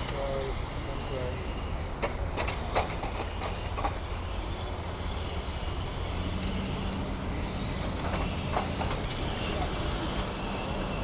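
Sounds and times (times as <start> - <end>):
rc car motors whirring: 0.0 - 11.0.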